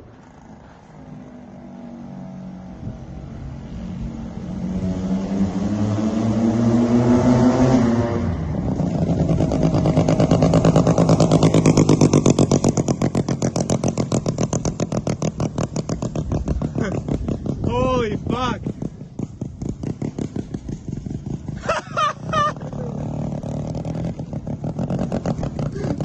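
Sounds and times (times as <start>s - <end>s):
rotary engine accelerating: 0.0s - 26.0s.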